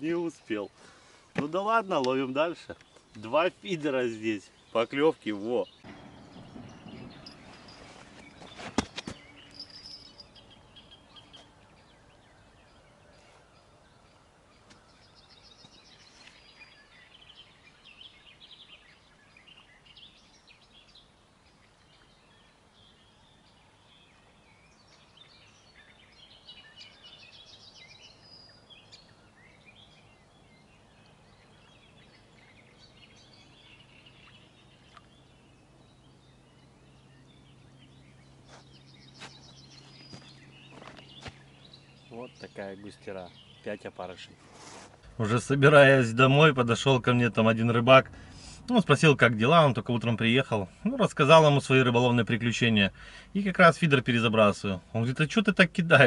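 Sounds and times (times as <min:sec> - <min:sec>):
faint birdsong: 0:00.0 - 0:56.0.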